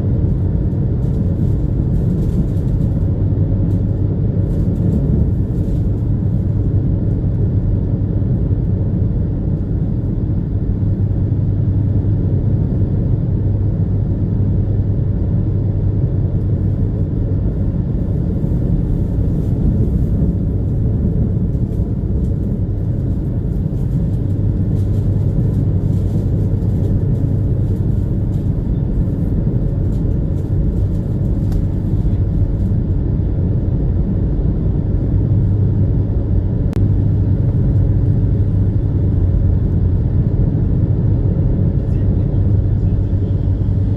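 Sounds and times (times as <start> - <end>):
ferry engine drone: 0.0 - 43.9.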